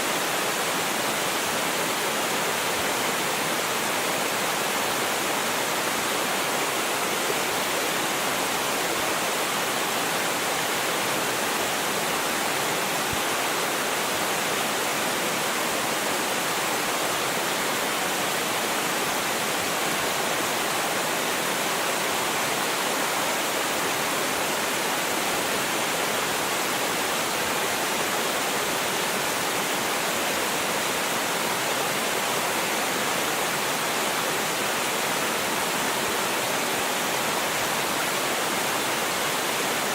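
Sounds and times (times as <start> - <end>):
water cascading: 0.0 - 39.9.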